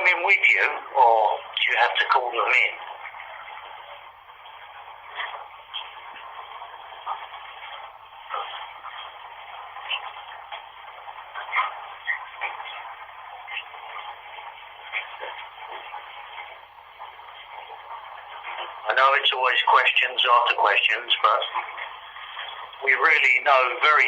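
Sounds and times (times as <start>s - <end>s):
bathwater running: 0.0s - 24.0s.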